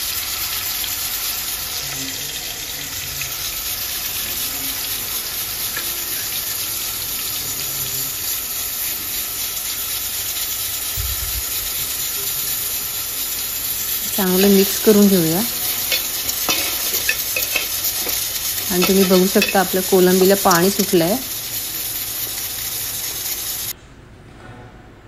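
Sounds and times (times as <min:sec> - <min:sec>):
prawns sizzling in hot oil: 0:00.0 - 0:23.8.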